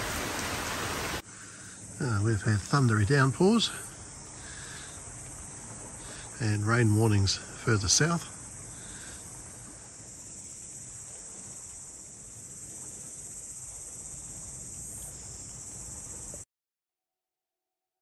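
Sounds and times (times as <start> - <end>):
insects chirring: 0.0 - 16.5.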